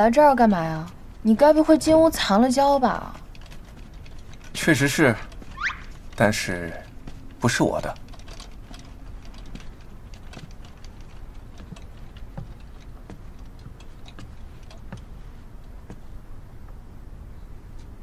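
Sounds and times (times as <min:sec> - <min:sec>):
low steady hum: 0:00.0 - 0:18.0
wheelchair wheels clicking: 0:00.8 - 0:16.2.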